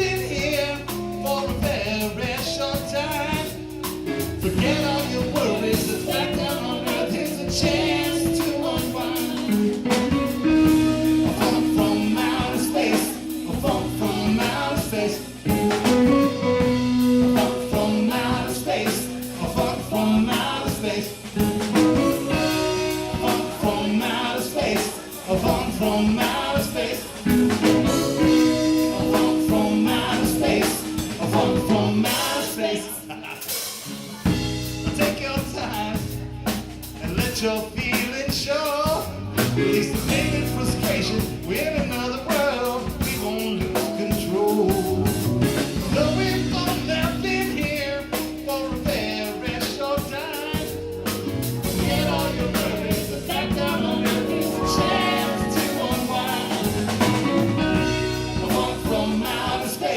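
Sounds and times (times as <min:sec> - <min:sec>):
funk band playing: 0:00.0 - 0:59.9
person singing: 0:00.0 - 0:59.9.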